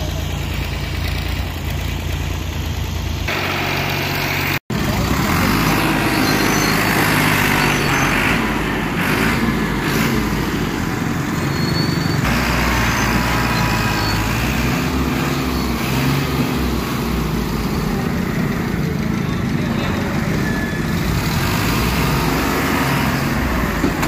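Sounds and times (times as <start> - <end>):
diesel tractor engines under load: 0.0 - 24.0.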